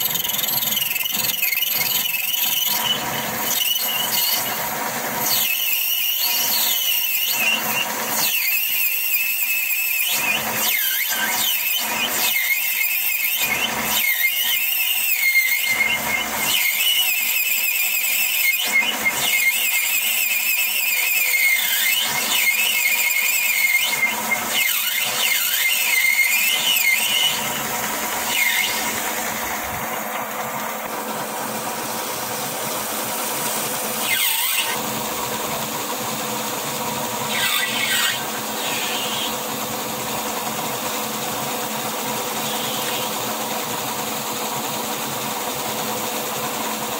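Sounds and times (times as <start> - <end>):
lathe tool squealing: 0.0 - 46.6
metal lathe running: 0.0 - 46.9.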